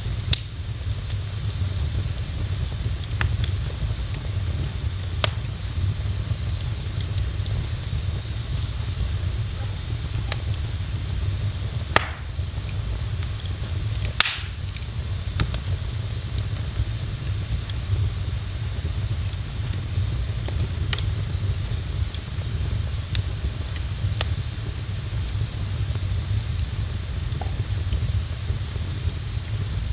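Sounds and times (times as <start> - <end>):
wood fire crackling: 0.0 - 29.9
sharp pops of fire: 0.1 - 29.8.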